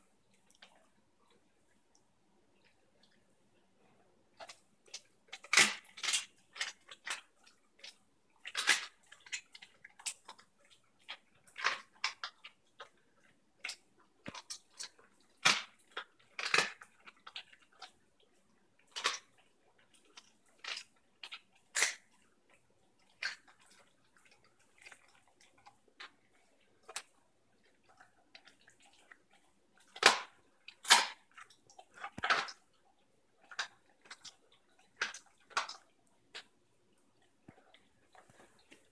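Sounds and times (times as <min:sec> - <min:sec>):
dog crunching raw chicken: 0:04.4 - 0:38.9.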